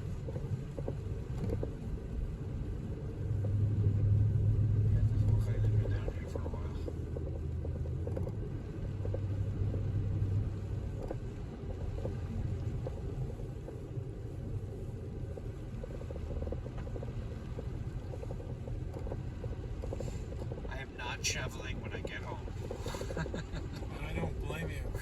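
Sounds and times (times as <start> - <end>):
car engine and tyres on snow: 0.0 - 25.0
low hum: 0.0 - 25.0.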